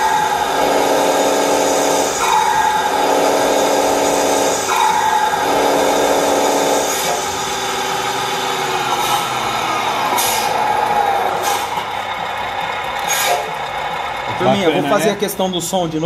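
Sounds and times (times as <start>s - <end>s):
truck engine sound from speaker: 0.0s - 16.0s.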